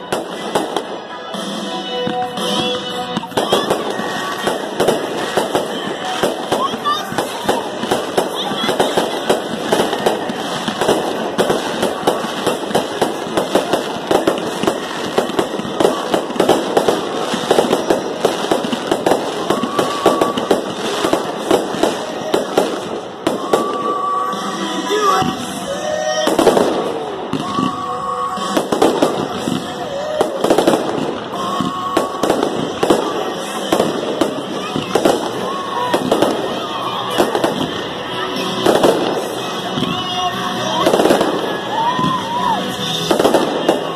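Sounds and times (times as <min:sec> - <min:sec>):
fireworks bursting and crackling: 0:00.0 - 0:43.9.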